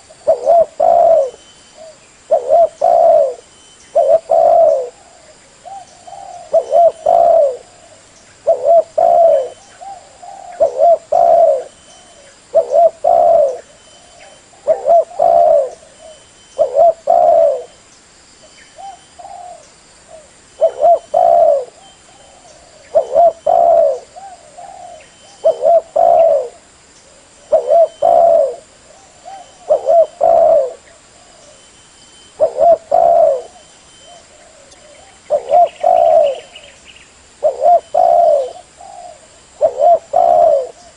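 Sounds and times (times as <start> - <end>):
dove cooing: 0.0 - 17.8, 18.8 - 36.8, 37.4 - 40.9.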